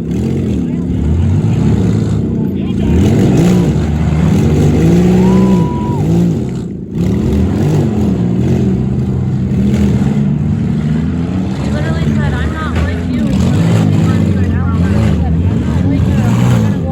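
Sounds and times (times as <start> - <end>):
car engines revving: 0.0 - 16.9.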